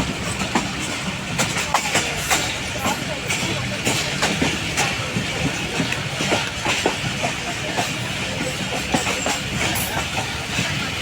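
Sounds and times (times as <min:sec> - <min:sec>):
train rumbling on rails: 0:00.0 - 0:11.0
wheels clicking over rail joints: 0:00.0 - 0:11.0.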